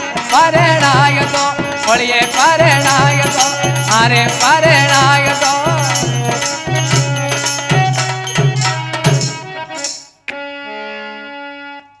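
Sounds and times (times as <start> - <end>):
drum beating: 0.0 - 10.0
jingling percussion: 0.0 - 10.3.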